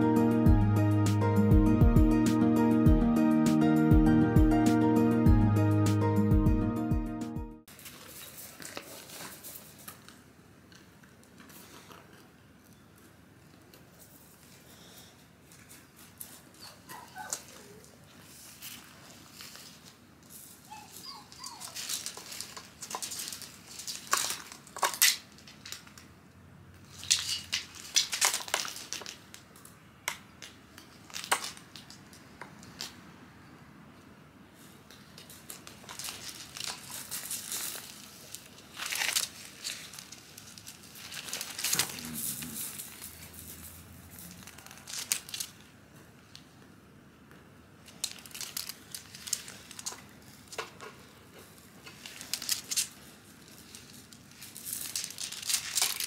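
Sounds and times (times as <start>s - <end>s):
crinkling and rustling: 7.7s - 26.2s, 26.8s - 29.8s, 30.4s - 33.0s, 34.6s - 46.7s, 47.3s - 56.0s.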